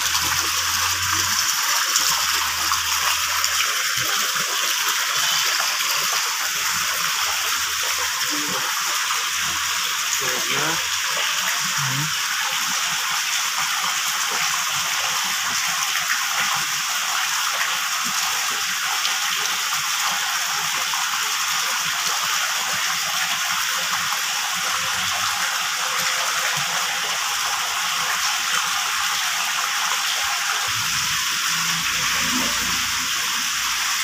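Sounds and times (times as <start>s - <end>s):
water pouring into fish tank: 0.0s - 34.0s.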